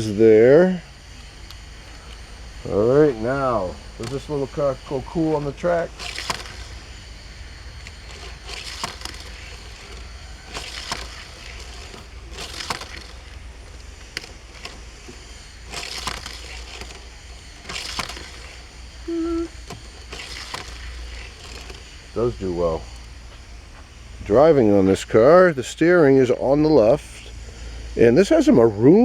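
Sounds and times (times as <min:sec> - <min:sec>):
toy car rattling along plastic track: 0:00.0 - 0:28.6
sharp clicks: 0:01.1 - 0:24.8.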